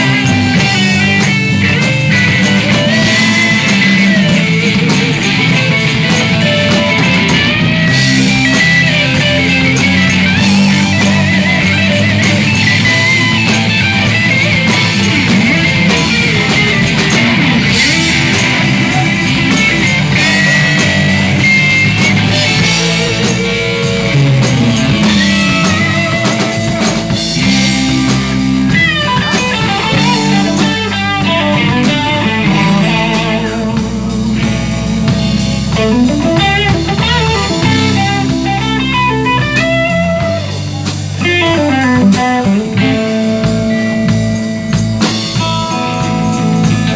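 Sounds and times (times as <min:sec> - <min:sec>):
bass guitar: 0:00.0 - 0:46.9
drum kit: 0:00.0 - 0:46.9
electric guitar lead: 0:00.0 - 0:46.9.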